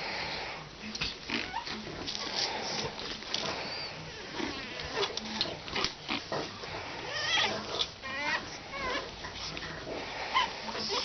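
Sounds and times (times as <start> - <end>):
puppies whimpering: 1.3 - 11.0.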